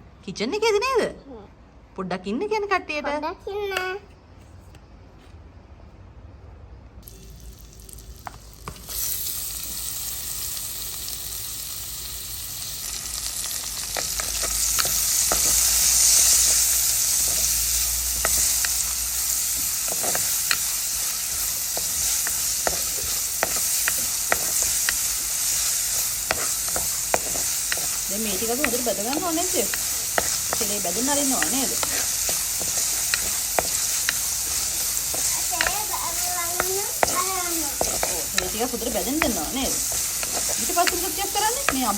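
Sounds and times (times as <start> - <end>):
spices sizzling in hot oil: 7.0 - 41.9.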